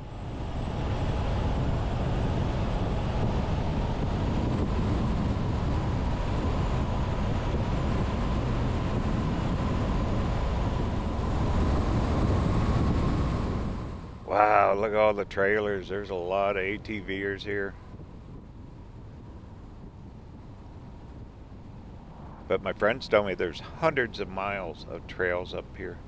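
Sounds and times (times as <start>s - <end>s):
engine and tyre rumble: 0.0s - 14.3s, 17.6s - 26.0s
faint steady whine: 0.0s - 26.0s.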